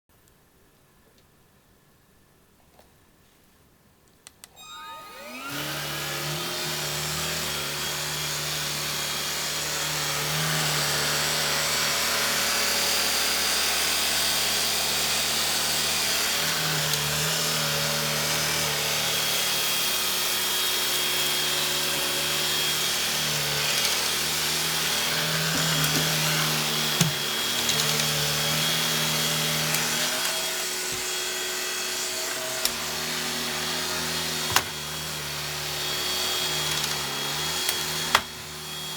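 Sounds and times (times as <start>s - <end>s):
vacuum cleaner motor whine: 4.5s - 38.9s.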